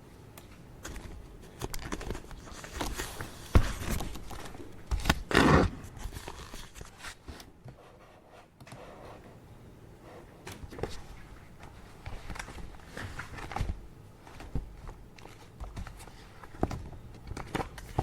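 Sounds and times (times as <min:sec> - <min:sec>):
paper rustling: 0:00.8 - 0:07.8, 0:10.5 - 0:18.0.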